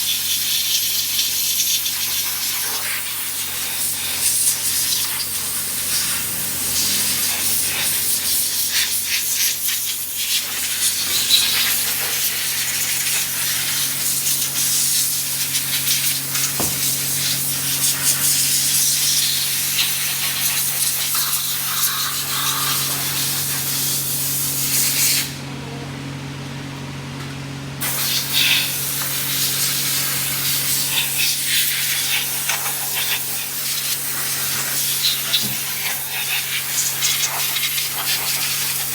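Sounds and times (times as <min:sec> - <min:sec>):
hissing spray: 0:00.4 - 0:25.4, 0:27.8 - 0:38.9
low machine hum: 0:03.3 - 0:09.3, 0:10.5 - 0:38.9.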